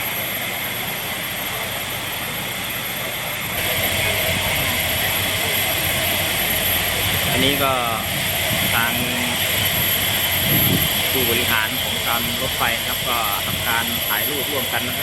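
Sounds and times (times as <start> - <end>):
locomotive hissing roar: 0.0 - 15.0.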